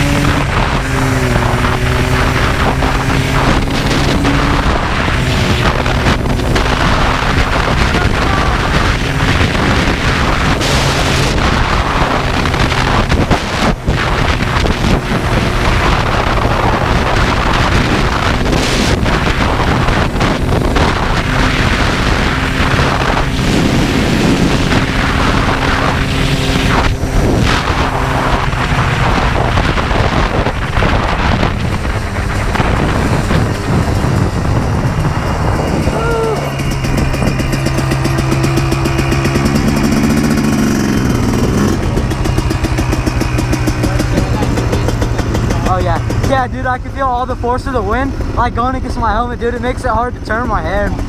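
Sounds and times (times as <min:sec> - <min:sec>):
two-stroke engine running: 0:00.0 - 0:51.0
wind buffeting microphone: 0:00.0 - 0:51.0.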